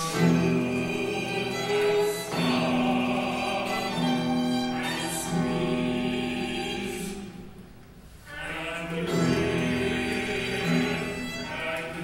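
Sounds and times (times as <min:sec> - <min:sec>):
opera singing: 0:00.0 - 0:07.4, 0:08.3 - 0:12.0.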